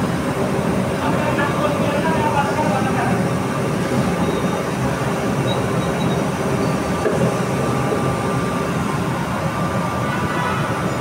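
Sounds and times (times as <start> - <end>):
gas burners rumbling: 0.0 - 11.0.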